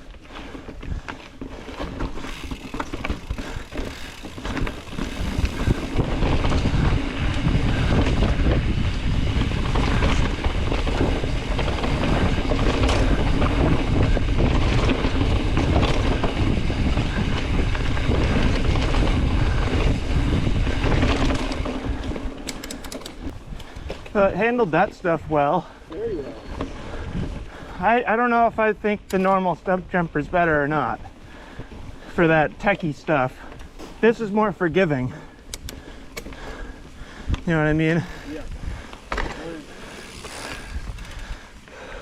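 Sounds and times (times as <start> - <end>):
bike clicks and rattles: 0.0 - 25.0, 25.6 - 29.5, 30.7 - 42.0
wind buffeting microphone: 0.0 - 28.7, 35.0 - 42.0
mountain bike rolling on dirt: 0.0 - 42.0.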